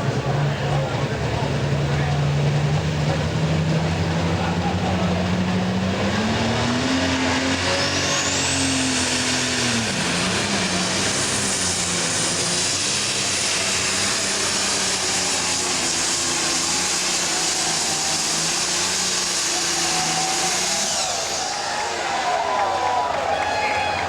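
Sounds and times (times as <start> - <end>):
diesel tractor engine at full throttle: 0.0 - 24.0.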